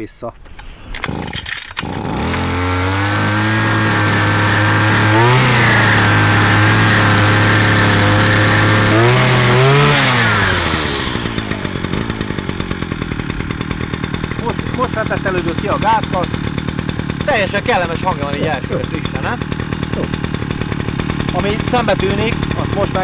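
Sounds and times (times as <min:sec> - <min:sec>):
starter rope pull: 0:00.5 - 0:23.0
brushcutter engine revving: 0:00.6 - 0:23.0.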